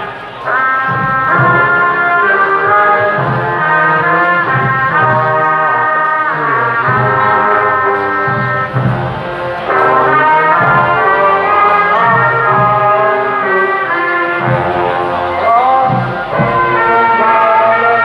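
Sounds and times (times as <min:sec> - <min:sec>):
brass band playing: 0:00.0 - 0:18.0.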